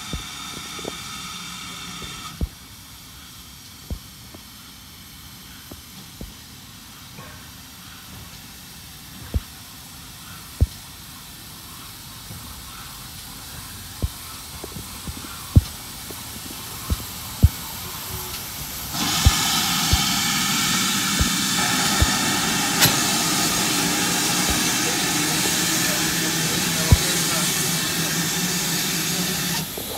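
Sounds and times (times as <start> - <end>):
loud steam hiss: 0.0 - 29.9.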